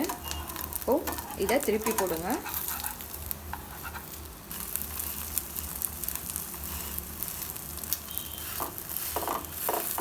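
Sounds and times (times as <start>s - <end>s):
omelette sizzling in oil: 0.0s - 10.0s.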